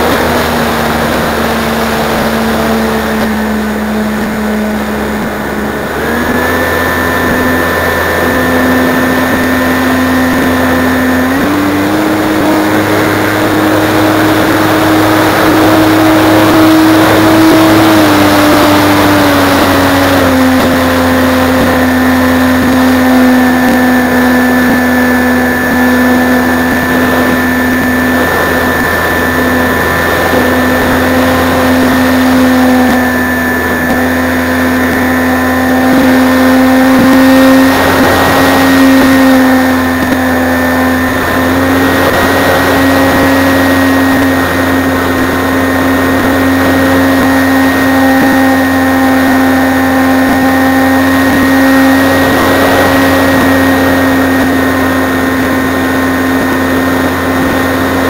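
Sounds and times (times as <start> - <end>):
model airplane motor buzzing: 0.0 - 58.0
wind rumble on microphone: 0.0 - 58.0.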